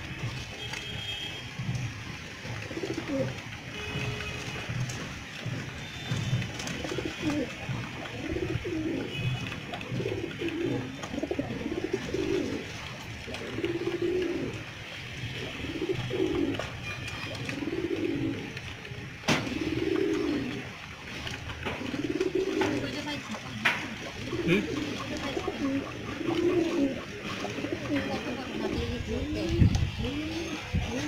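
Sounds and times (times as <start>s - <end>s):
pigeons cooing: 2.2s - 4.0s, 4.9s - 31.0s.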